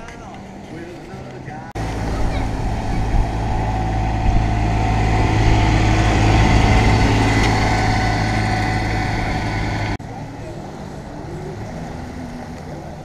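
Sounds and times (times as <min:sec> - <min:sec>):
vehicle engine driving past: 0:01.8 - 0:13.0.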